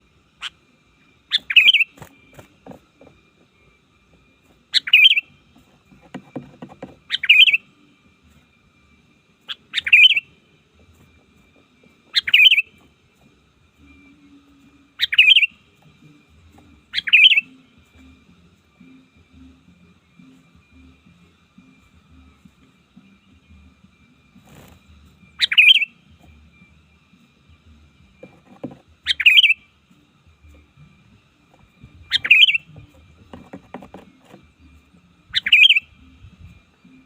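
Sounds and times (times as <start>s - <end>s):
bulbul calling: 0.3s - 3.3s, 4.7s - 8.4s, 9.4s - 37.0s.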